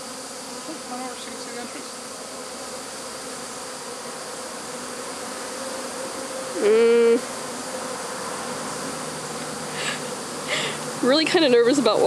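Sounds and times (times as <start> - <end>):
bee buzzing close by: 0.0 - 12.0
bee swarm buzzing: 0.0 - 12.0.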